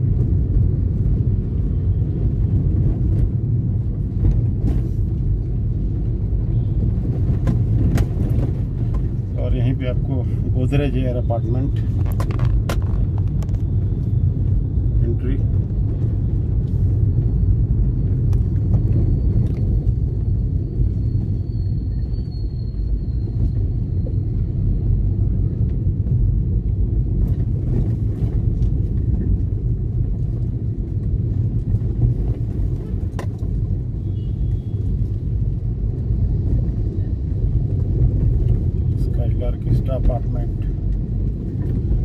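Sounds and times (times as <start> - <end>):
road and wind noise from vehicle: 0.0 - 42.0.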